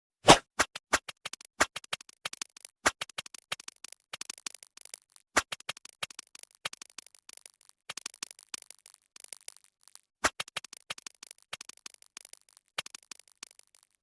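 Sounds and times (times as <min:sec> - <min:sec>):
rapid sharp clicks and crackles: 0:00.5 - 0:14.0.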